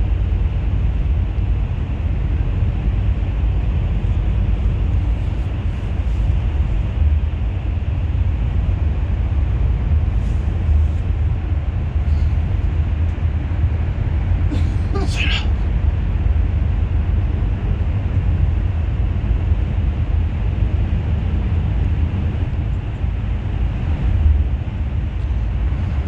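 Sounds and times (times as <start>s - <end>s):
bus engine and tyre rumble: 0.0s - 26.0s.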